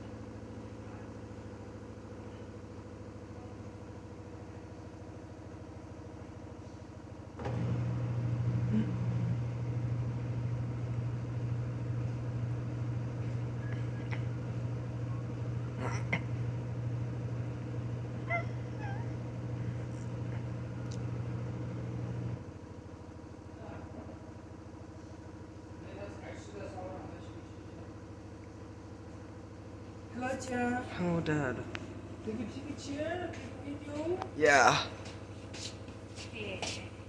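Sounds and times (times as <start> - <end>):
washing machine motor humming: 0.0 - 23.4, 28.6 - 37.0.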